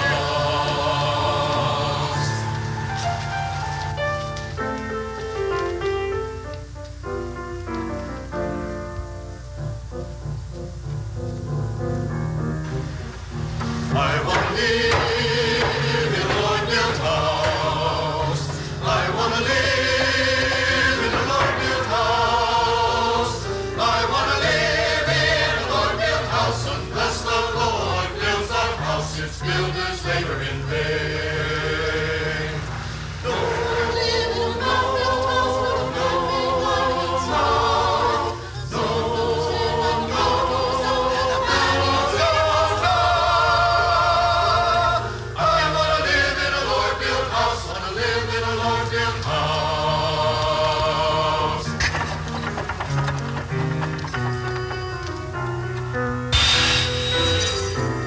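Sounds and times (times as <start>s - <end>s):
choir singing gospel song: 0.0s - 4.6s, 12.7s - 54.9s.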